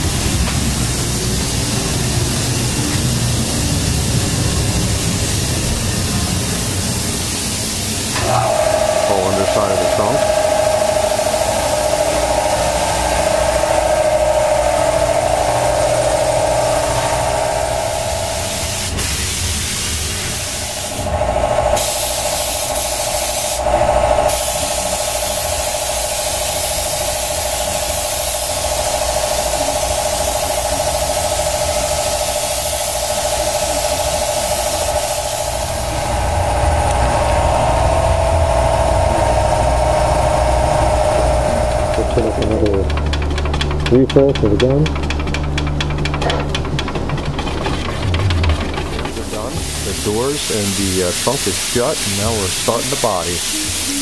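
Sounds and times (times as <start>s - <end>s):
spray gun hissing: 0.0s - 42.4s, 49.0s - 54.0s
steady humming tone: 0.0s - 54.0s.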